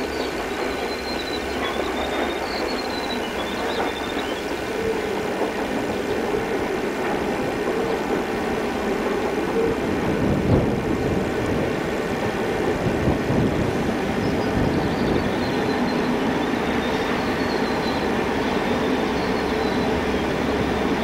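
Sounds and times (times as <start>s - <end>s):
diesel locomotive engines running: 0.0s - 21.0s.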